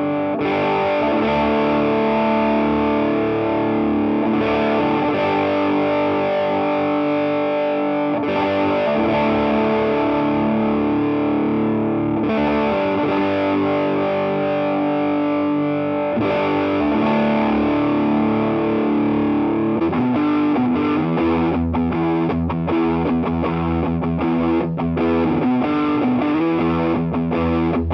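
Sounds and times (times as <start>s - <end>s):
distorted electric guitar chords: 0.0s - 27.9s.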